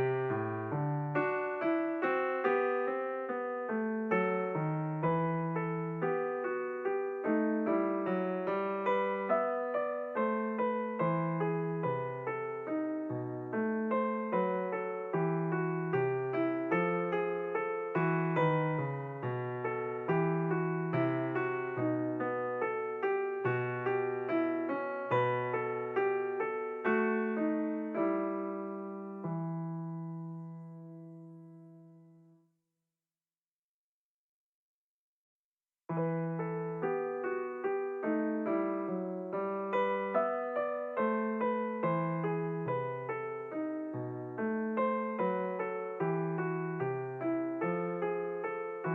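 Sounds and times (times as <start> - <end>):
slow piano melody: 0.0 - 32.4, 35.9 - 48.9.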